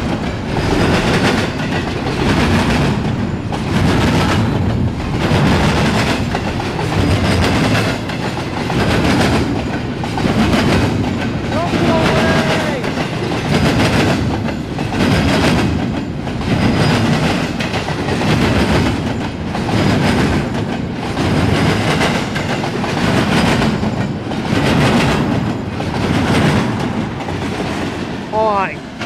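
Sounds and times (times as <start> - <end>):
freight train wheels clacking: 0.0 - 29.0.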